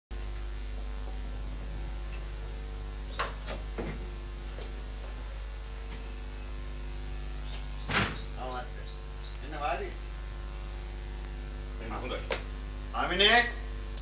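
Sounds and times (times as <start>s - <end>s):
low electrical hum: 0.1s - 14.0s.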